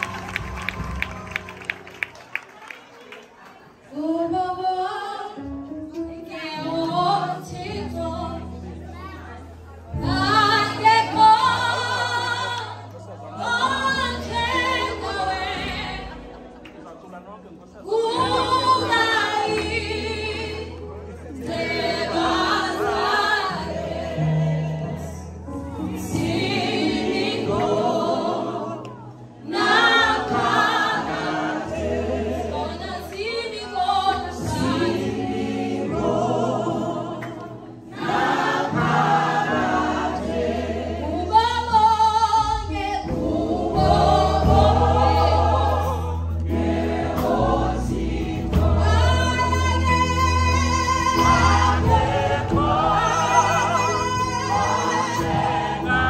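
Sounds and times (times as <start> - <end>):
choir singing gospel song: 0.0 - 1.8, 6.2 - 8.8, 9.9 - 16.8, 17.8 - 56.0.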